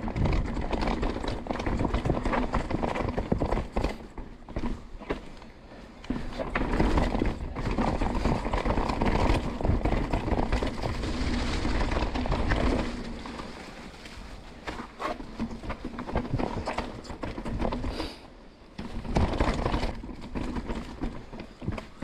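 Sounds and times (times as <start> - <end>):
mountain bike rattling over rocks: 0.0 - 22.0.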